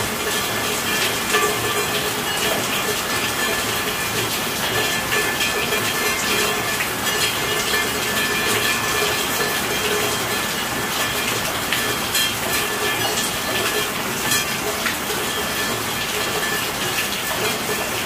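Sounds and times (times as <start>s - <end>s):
rain drop hits: 0.0s - 18.0s
steady rainfall: 0.0s - 18.0s.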